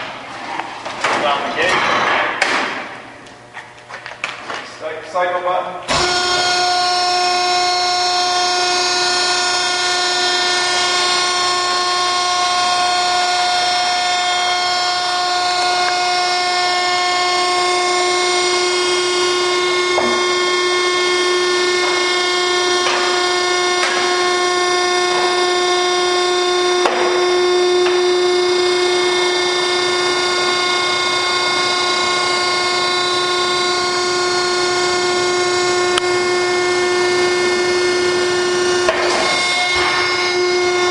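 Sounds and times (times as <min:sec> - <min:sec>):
hydraulic power unit whining: 0:00.0 - 0:40.9.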